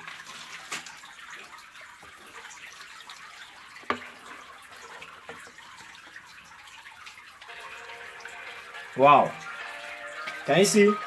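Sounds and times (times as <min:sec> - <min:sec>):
small splashes: 0:00.0 - 0:11.0
water trickling and dripping: 0:00.0 - 0:11.0.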